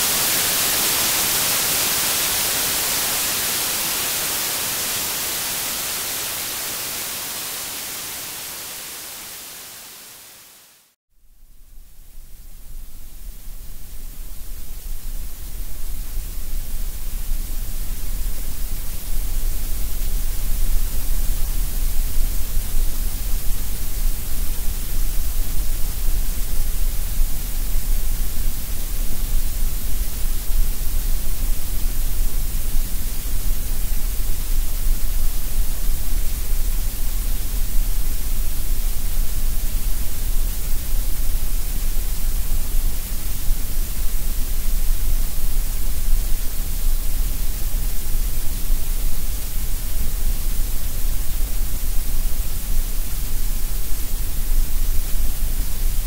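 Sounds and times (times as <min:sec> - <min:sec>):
colored noise hiss: 0:00.0 - 0:56.0.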